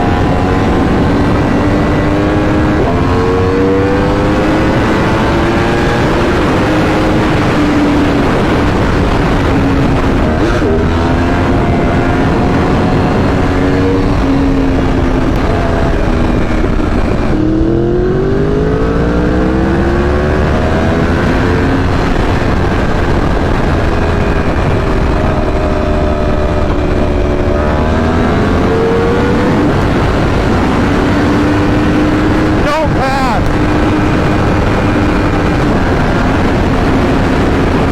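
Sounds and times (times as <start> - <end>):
road and wind rush: 0.0 - 37.9
vehicle engine running hard: 0.0 - 37.9.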